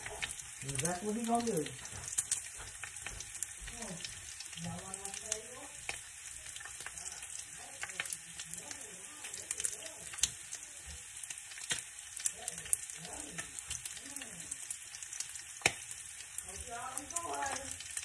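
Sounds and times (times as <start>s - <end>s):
food sizzling in a pan: 0.0s - 18.0s
sharp pops and crackles: 0.0s - 18.0s.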